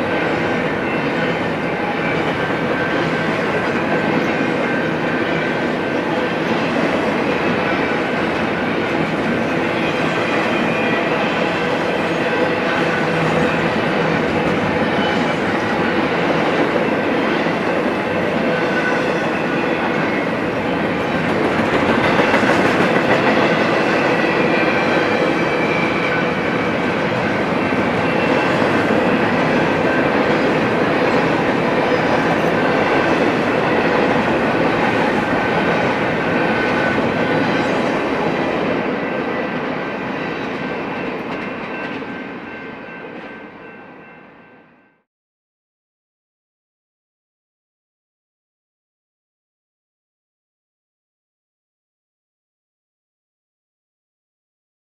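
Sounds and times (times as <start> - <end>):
freight train wheels rumbling on track: 0.0 - 44.7.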